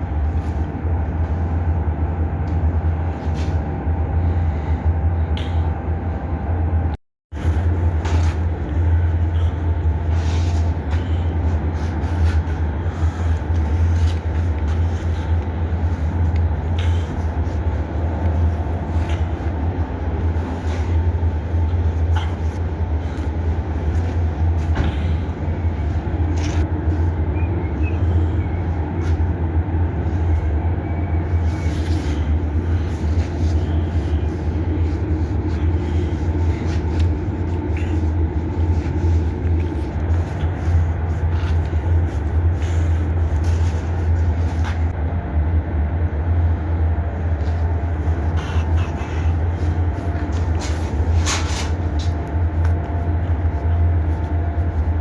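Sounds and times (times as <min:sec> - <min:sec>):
vehicle engine rumbling: 0:07.4 - 0:55.0.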